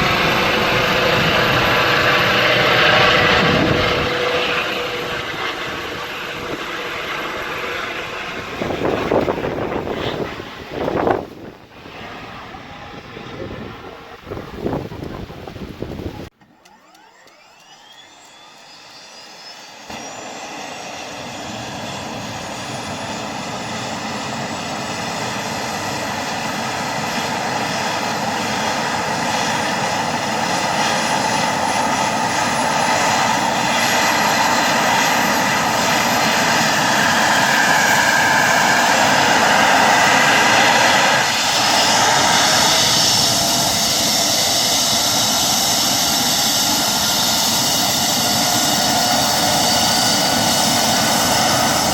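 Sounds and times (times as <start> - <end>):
helicopter turbine starting up: 0.0 - 51.9.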